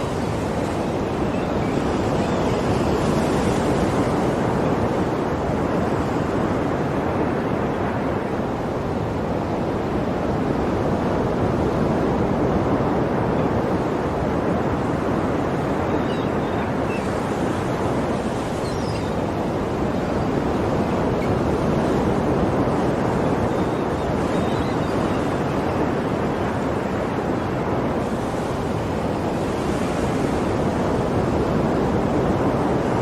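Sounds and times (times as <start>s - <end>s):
sea waves breaking: 0.0s - 33.0s.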